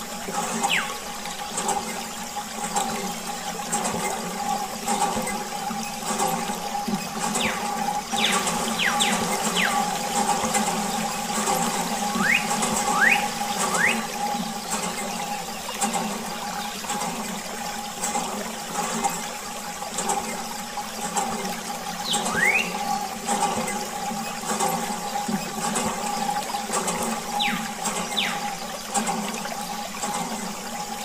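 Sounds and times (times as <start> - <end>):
steady hum: 0.0 - 31.0
water jet splashing: 0.0 - 31.0.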